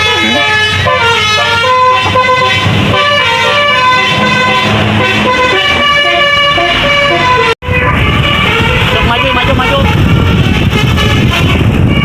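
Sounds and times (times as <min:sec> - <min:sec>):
bus horn playing a tune: 0:00.0 - 0:12.0.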